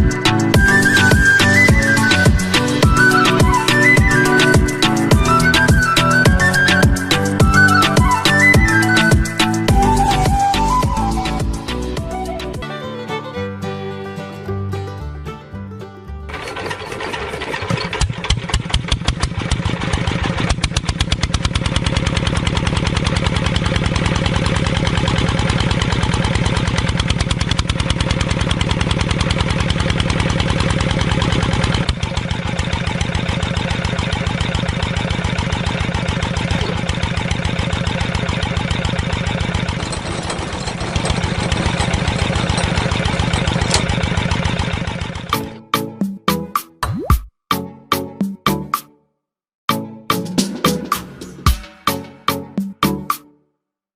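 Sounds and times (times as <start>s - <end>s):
small engine running: 0.0s - 14.1s, 16.3s - 45.6s.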